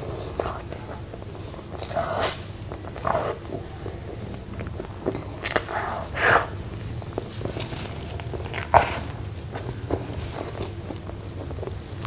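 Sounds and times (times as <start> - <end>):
wet squishy chewing: 0.0 - 12.0.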